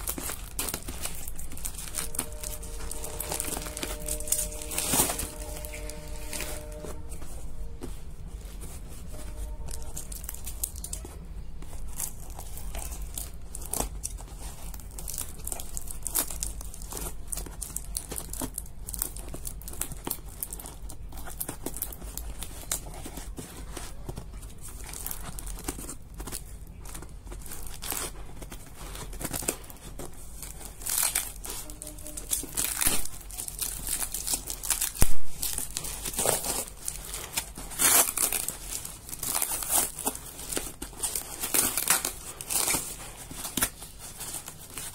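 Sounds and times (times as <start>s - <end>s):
plastic wrap crinkling and tearing: 0.0s - 44.9s.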